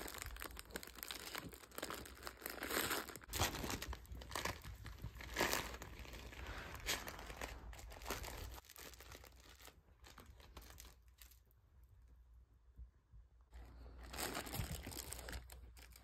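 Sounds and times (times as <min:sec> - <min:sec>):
crinkle toys rustling: 0:00.0 - 0:11.6, 0:13.5 - 0:16.0.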